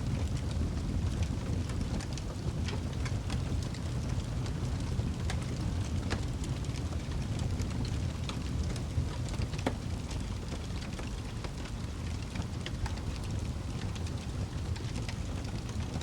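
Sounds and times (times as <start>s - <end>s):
fire crackling and popping: 0.0s - 16.0s
flames rumbling: 0.0s - 16.0s.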